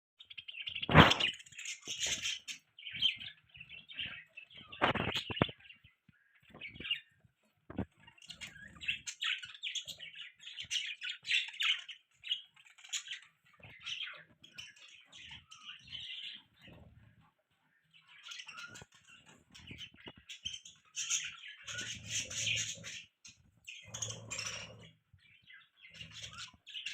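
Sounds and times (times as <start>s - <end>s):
budgerigars chirping: 0.2s - 26.9s.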